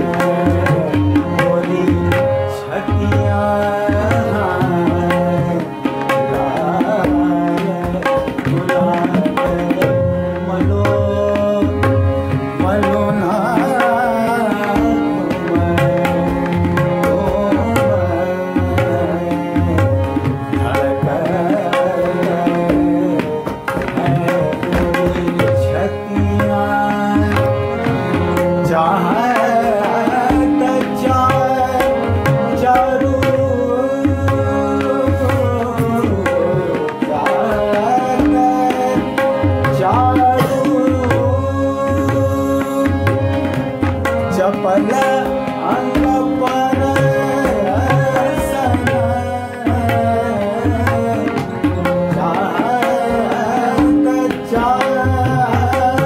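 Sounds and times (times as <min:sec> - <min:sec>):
harmonium melody: 0:00.0 - 0:56.0
tabla rhythm: 0:00.0 - 0:56.0.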